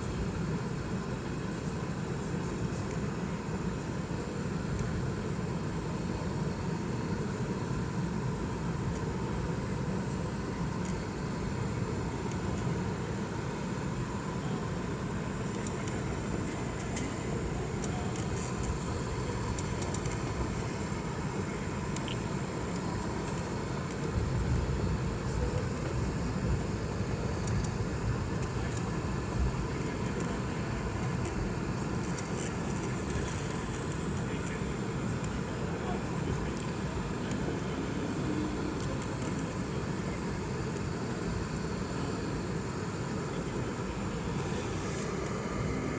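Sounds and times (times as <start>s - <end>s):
airliner engines humming: 0.0s - 45.9s.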